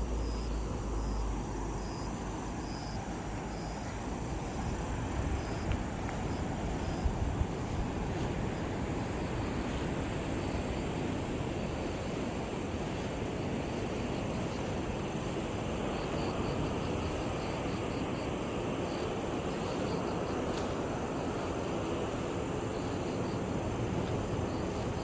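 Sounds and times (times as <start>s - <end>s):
insect chirping: 0.0s - 25.0s
ocean waves: 0.0s - 25.0s
wind: 0.0s - 25.0s.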